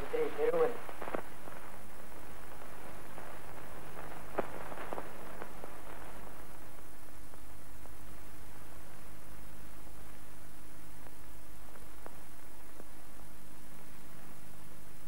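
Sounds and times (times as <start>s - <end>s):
crackling clicks: 0.0s - 15.0s
film soundtrack hiss: 0.0s - 15.0s.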